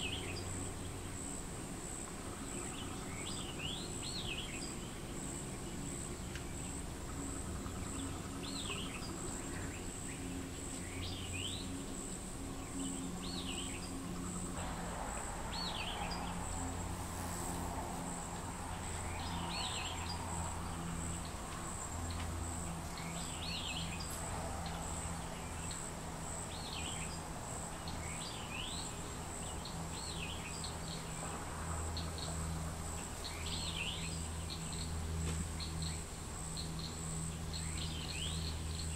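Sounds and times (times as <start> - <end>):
low steady hum: 0.0 - 38.9
high-pitched insect trill: 6.6 - 38.9.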